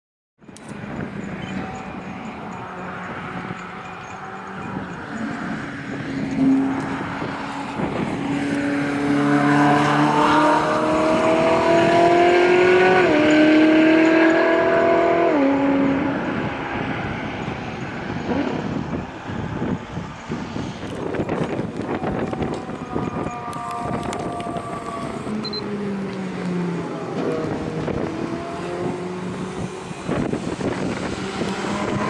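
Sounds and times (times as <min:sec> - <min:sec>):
sports car engine accelerating: 0:00.6 - 0:20.2, 0:20.9 - 0:32.0.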